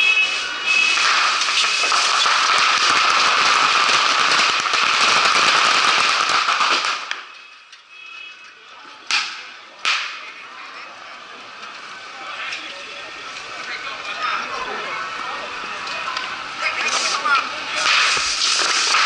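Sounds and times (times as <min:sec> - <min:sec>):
firecrackers crackling and popping: 0:00.0 - 0:19.0.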